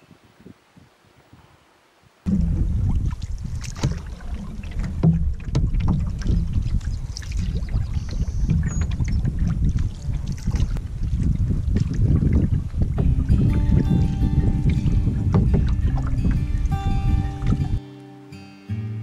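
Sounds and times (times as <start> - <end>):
wind buffeting microphone: 0.0 - 17.8
waves slapping against hull: 2.3 - 17.8.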